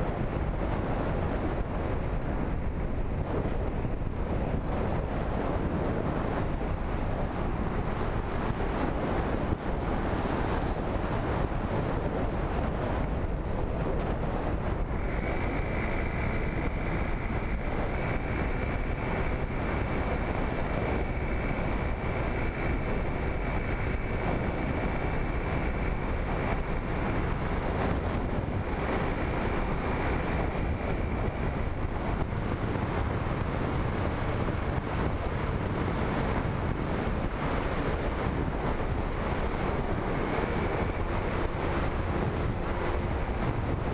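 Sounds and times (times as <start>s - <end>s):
faint motor whine: 0.0s - 43.9s
wind rushing on microphone: 0.0s - 43.9s.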